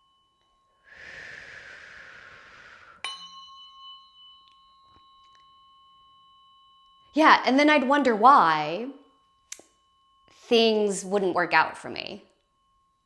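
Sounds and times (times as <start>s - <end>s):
tuning fork ringing: 0.0s - 1.5s, 2.2s - 13.0s.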